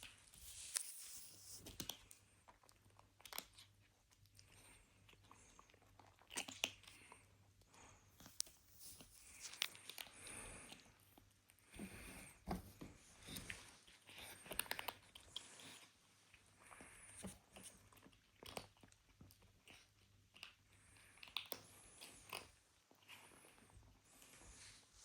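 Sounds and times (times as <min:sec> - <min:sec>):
kitten crunching and chewing: 0:00.0 - 0:25.0.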